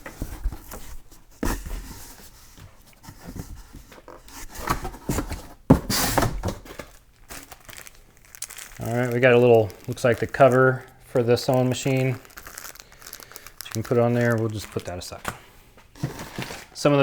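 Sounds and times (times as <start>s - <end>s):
cardboard box rustling: 0.0s - 16.8s.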